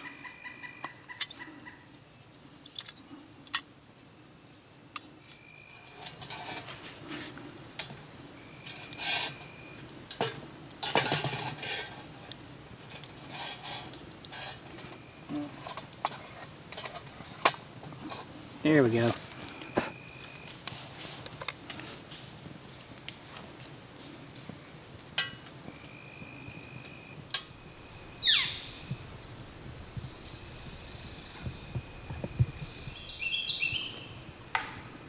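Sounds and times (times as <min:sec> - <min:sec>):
insects trilling: 0:00.0 - 0:35.0
wood fire crackling and popping: 0:04.9 - 0:33.3.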